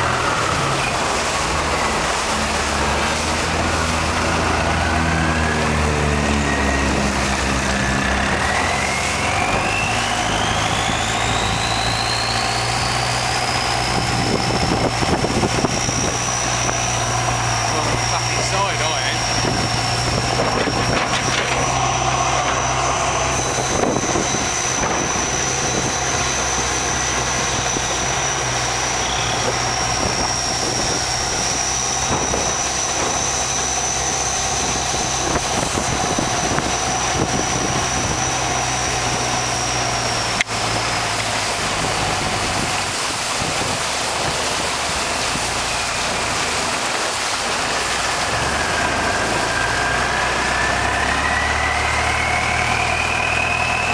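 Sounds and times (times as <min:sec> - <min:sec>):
boat engine droning with whine: 0:00.0 - 0:53.9.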